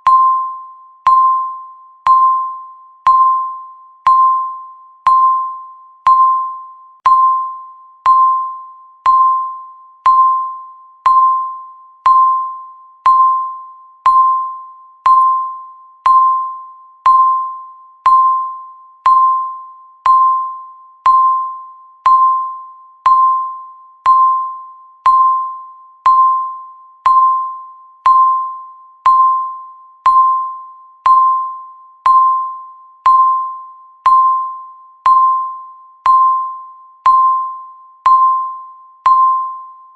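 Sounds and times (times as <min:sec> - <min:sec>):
timer ticking with bell-like ding: 0:00.0 - 0:39.9.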